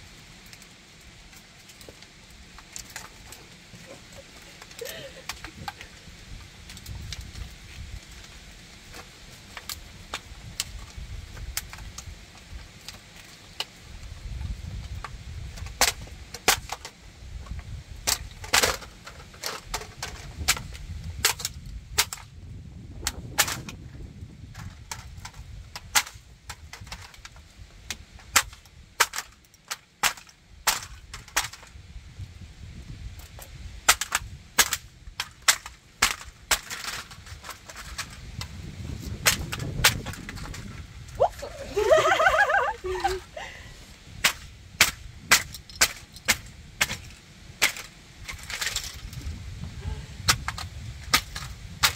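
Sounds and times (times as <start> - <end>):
plastic toy cracking underfoot: 1.3 - 22.3, 23.0 - 31.8, 33.2 - 40.9, 44.2 - 51.9.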